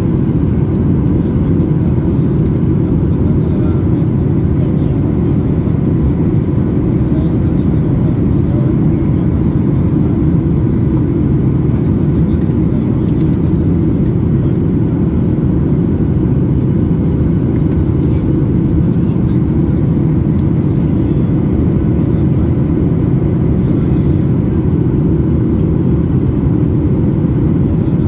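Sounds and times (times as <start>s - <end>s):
jet cabin engine rumble: 0.0s - 28.0s.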